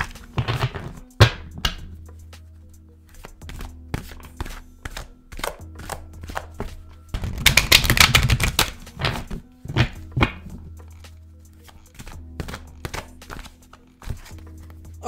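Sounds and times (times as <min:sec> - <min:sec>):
cards being shuffled: 0:00.0 - 0:02.4, 0:03.0 - 0:15.0
soft background music: 0:00.0 - 0:15.0.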